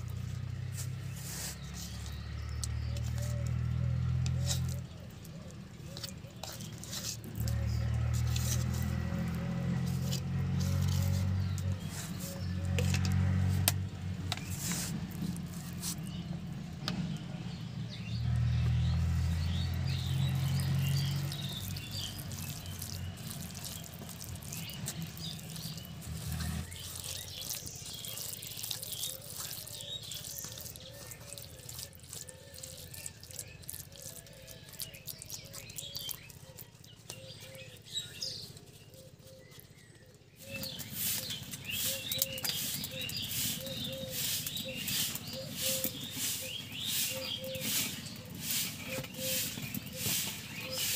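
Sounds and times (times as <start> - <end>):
hands squishing fish and paste: 0.0 - 17.1, 18.5 - 50.9
birds chirping: 0.0 - 50.9.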